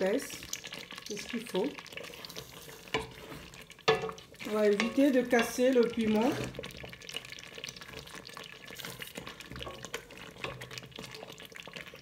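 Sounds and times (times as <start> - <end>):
wooden spoon stirring thick sauce: 0.1 - 12.0.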